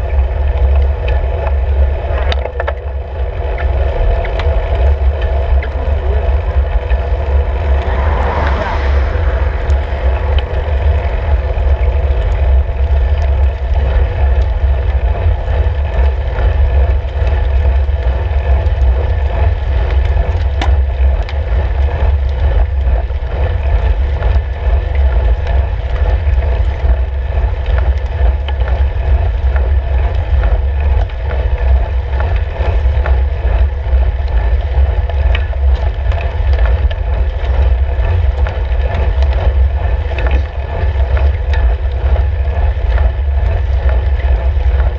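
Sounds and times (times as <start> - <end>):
road vibration: 0.0 - 44.9
wind rumble on microphone: 0.0 - 44.9.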